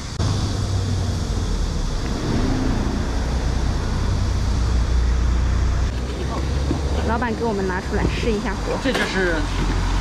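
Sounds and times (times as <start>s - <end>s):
deep low street rumble: 0.0s - 10.0s.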